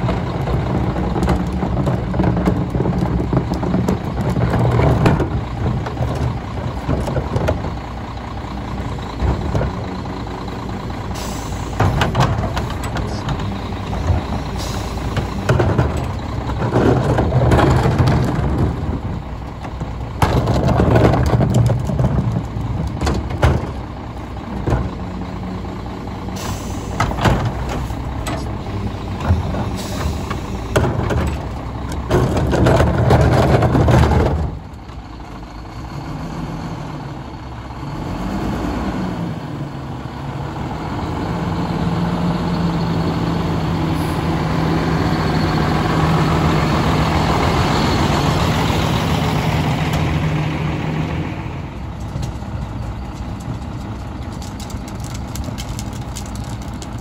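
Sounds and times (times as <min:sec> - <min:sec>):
garbage truck diesel engine idling: 0:00.0 - 0:38.3, 0:39.4 - 0:57.0.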